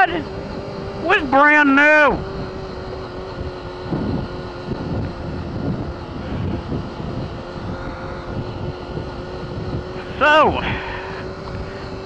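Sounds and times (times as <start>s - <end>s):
motorcycle engine humming: 0.0s - 12.0s
road noise: 0.0s - 12.0s
wind noise: 0.0s - 12.0s.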